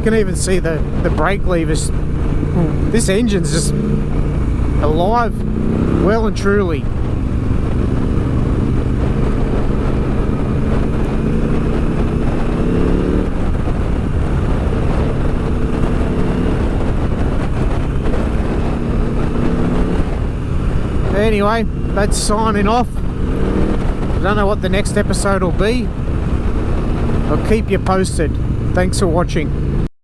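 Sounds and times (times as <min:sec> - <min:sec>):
motorcycle engine cruising: 0:00.0 - 0:29.9.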